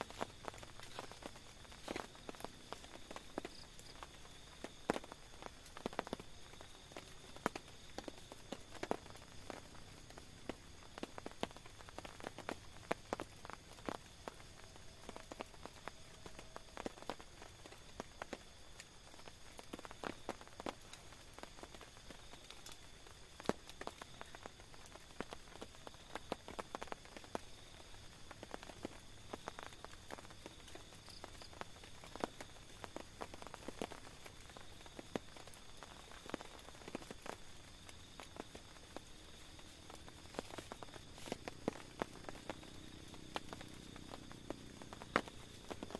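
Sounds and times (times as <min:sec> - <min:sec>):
rain hiss: 0:00.0 - 0:45.9
raindrops tapping on a tent: 0:00.0 - 0:45.9.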